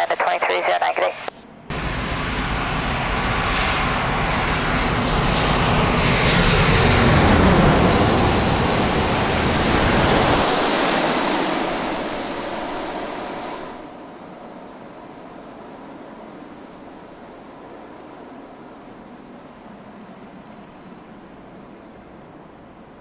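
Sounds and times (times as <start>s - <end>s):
jet airliner passing overhead: 0.0s - 23.0s.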